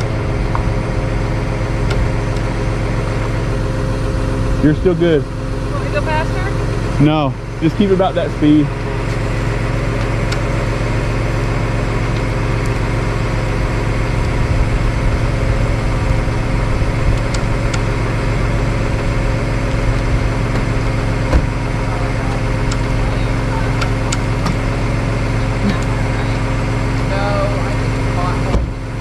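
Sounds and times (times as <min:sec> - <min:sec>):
tow truck engine running: 0:00.0 - 0:29.0.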